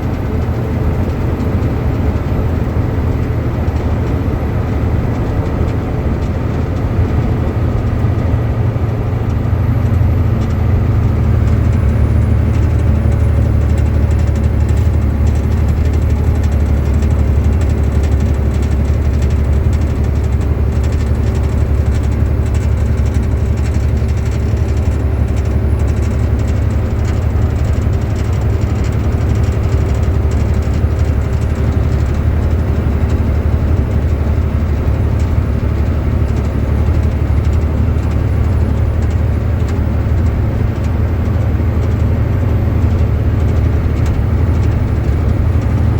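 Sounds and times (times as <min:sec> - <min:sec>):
truck engine low drone: 0:00.0 - 0:45.9.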